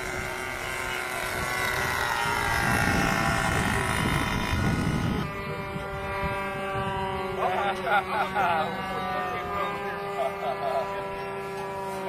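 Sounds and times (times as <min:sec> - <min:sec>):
model aircraft motor whine: 0:00.0 - 0:12.0.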